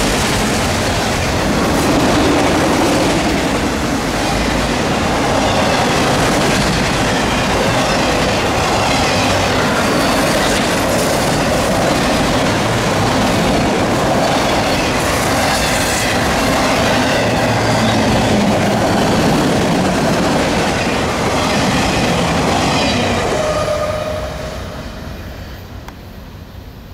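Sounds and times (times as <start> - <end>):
train wheels clattering over rails: 0.0 - 23.6.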